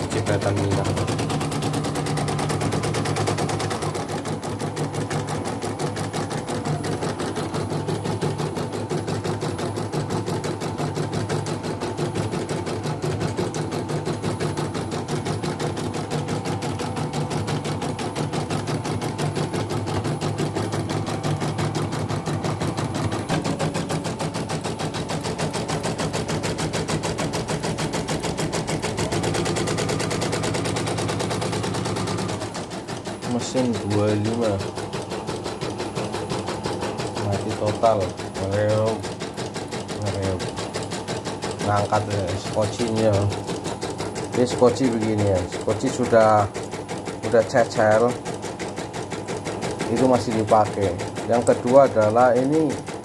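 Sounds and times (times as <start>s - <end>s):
embroidery machine clatter: 0.0s - 53.0s.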